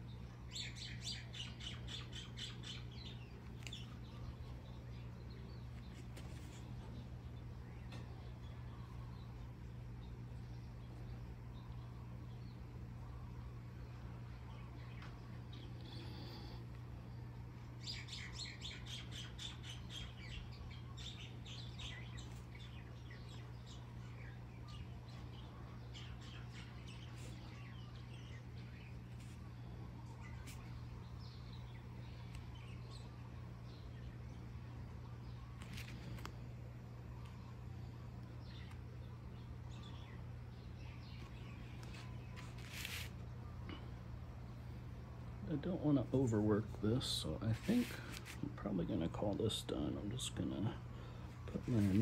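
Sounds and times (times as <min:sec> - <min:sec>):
small birds chirping: 0:00.0 - 0:52.0
steady low hum: 0:00.0 - 0:52.0.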